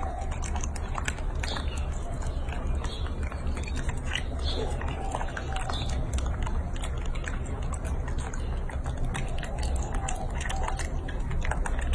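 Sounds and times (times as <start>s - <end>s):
monkeys chewing and smacking: 0.0s - 11.9s.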